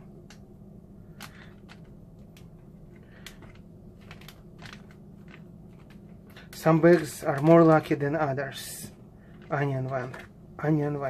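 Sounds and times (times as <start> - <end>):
steady low hum: 0.0 - 11.0
plastic bag rustling: 1.1 - 11.0.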